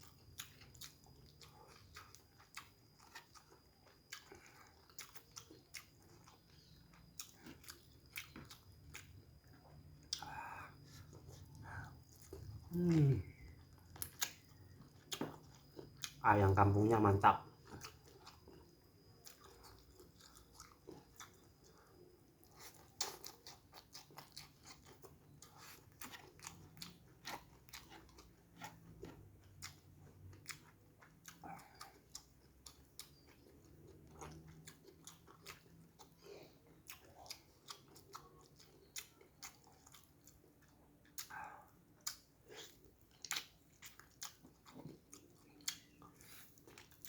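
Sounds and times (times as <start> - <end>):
close chewing: 0.0 - 47.0.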